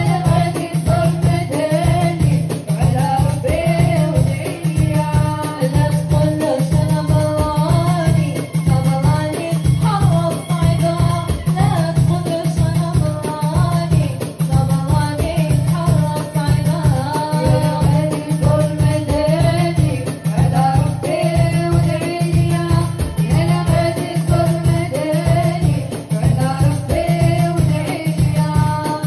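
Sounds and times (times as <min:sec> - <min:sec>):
quick drum beat: 0:00.0 - 0:29.0
woman singing into microphone: 0:00.0 - 0:29.0.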